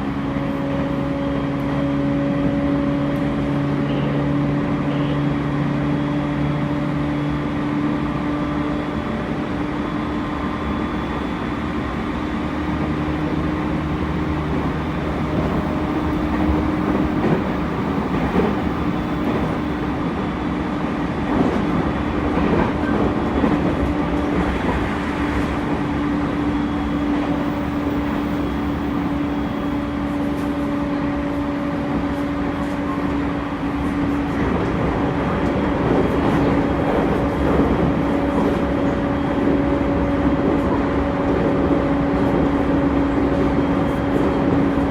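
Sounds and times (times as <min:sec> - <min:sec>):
train rolling rumble: 0:00.0 - 0:44.9.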